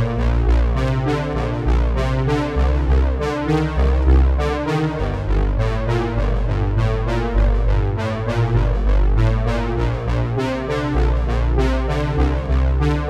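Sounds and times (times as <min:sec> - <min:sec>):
synthesizer and electric piano music: 0:00.0 - 0:13.0.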